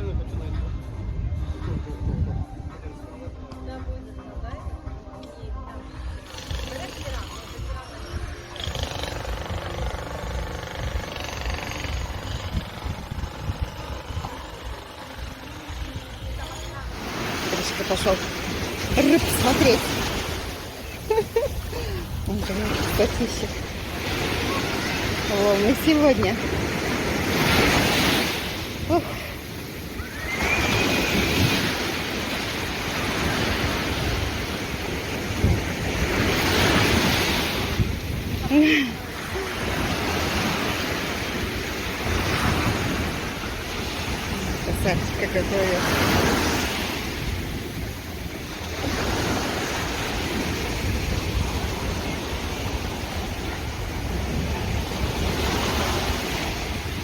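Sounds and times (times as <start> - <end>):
wind buffeting microphone: 0.0 - 57.0
sea waves washing: 4.8 - 57.0.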